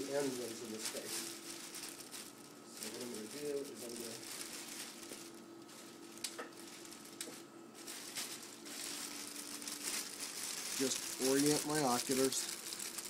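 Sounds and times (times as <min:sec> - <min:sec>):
faint steady hum: 0:00.0 - 0:13.0
plastic drape rustling and crinkling: 0:00.0 - 0:13.0.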